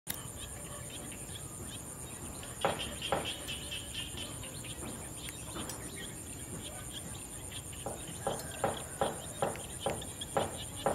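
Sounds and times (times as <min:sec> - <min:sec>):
crickets chirping: 0:00.1 - 0:10.9.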